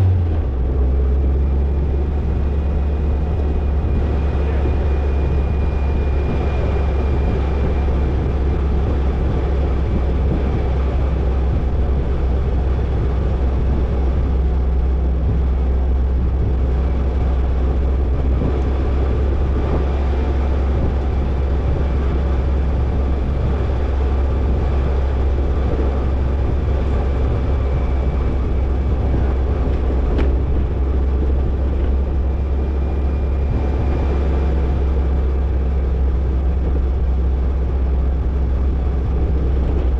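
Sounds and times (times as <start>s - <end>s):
car engine drone: 0.0s - 39.9s
road and body noise: 0.0s - 39.9s.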